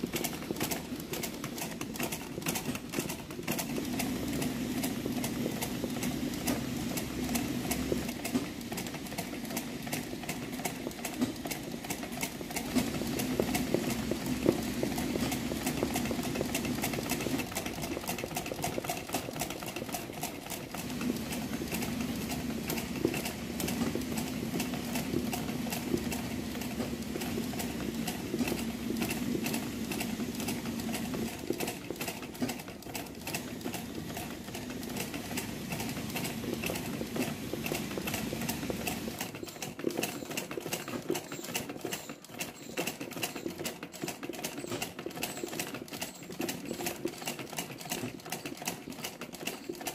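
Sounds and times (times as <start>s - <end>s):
sewing machine needle clatter: 0.0s - 49.9s.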